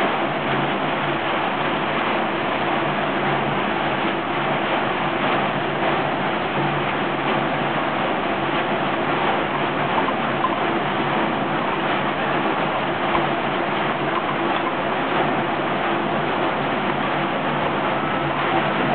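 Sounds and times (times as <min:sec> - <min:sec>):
engine hum: 0:00.0 - 0:18.9.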